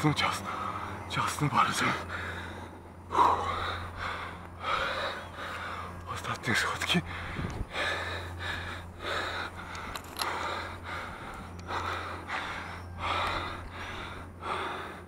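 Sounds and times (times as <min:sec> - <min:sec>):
person breathing hard: 0:01.9 - 0:06.1, 0:07.0 - 0:15.0.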